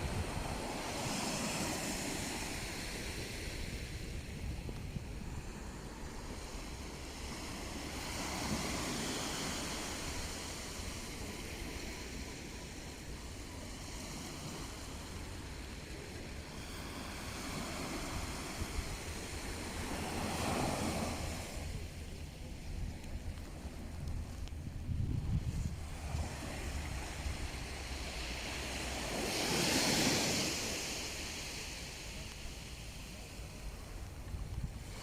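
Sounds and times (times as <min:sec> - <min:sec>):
waves breaking on shore: 0:00.0 - 0:35.0
wind rumble on microphone: 0:00.0 - 0:35.0.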